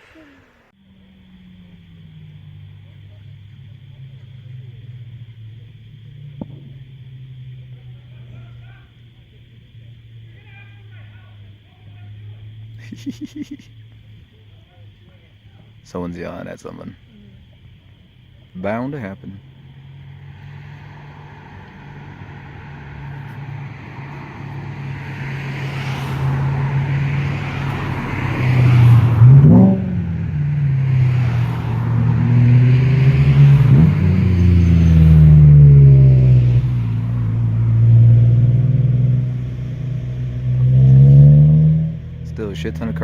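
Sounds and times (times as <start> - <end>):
cars driving past: 0.0 - 43.0.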